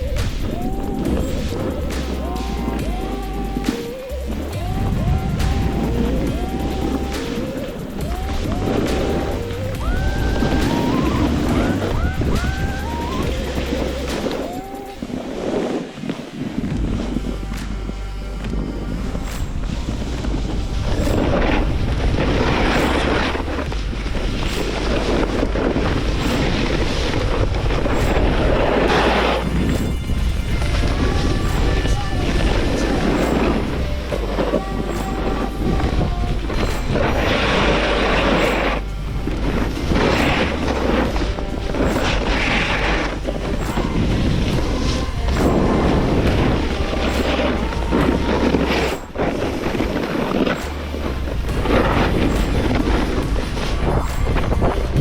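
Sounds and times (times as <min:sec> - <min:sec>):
background music with boomy rumble: 0:00.0 - 0:55.0
snowboard sliding on snow: 0:00.0 - 0:55.0
wind buffeting microphone: 0:00.0 - 0:55.0.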